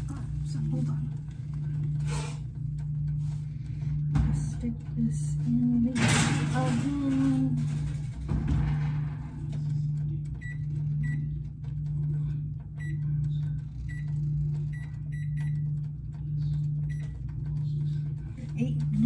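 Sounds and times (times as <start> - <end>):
kitchen appliance humming: 0.0 - 19.0.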